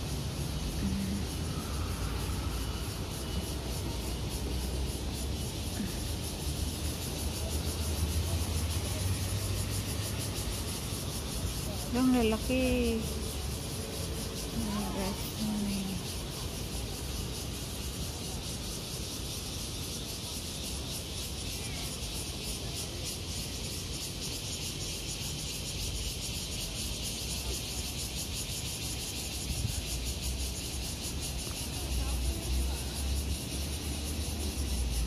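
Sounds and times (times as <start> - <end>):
insect chorus pulsing: 0.0 - 35.0.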